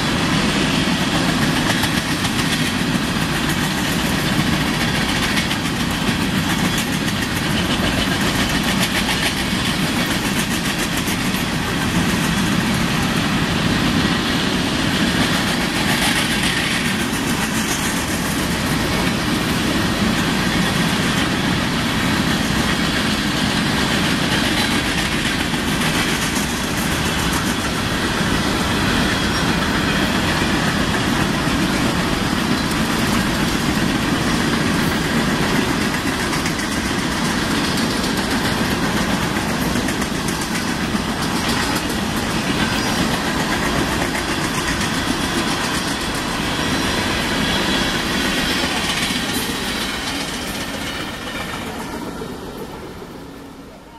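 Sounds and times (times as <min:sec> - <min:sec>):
steel wheels running on rail: 0:00.0 - 0:53.9.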